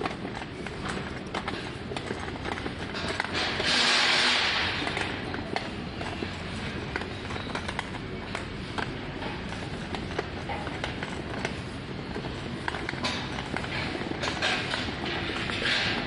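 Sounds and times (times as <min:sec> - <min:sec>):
store background noise: 0:00.0 - 0:16.0.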